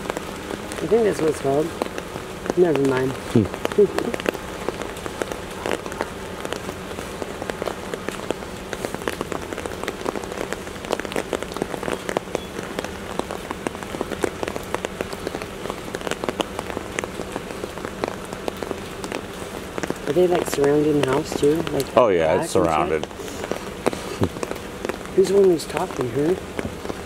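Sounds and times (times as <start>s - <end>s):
sharp raindrop hits: 0.0s - 27.0s
steady rain hiss: 0.0s - 27.0s.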